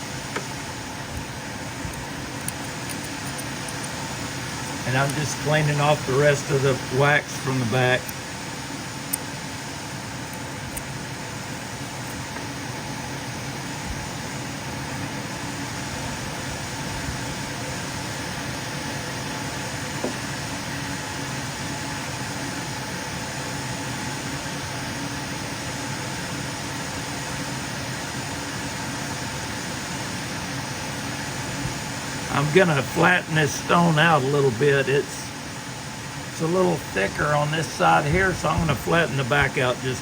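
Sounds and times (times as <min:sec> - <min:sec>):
grinding machine motor hum: 0:00.0 - 0:40.0.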